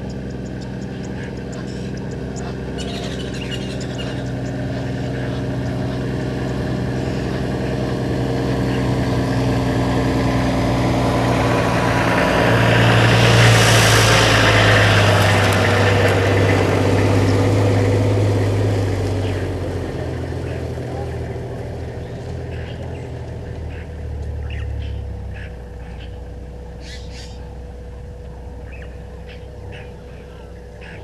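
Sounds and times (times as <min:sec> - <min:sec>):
tyre and road noise: 0:00.0 - 0:31.0
vehicle engine hum: 0:00.0 - 0:31.0.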